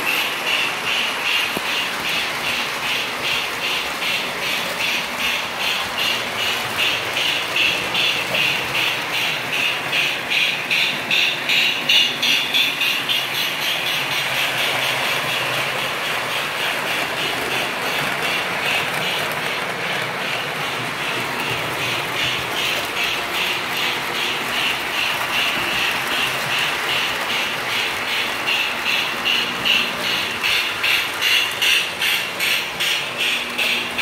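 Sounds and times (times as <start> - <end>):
rapid rhythmic clicking: 0.0 - 34.0.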